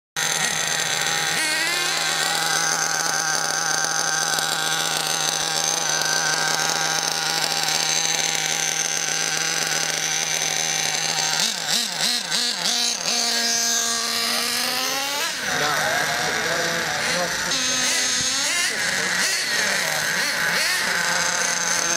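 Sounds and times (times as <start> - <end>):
small rc car engine: 0.2 - 21.9.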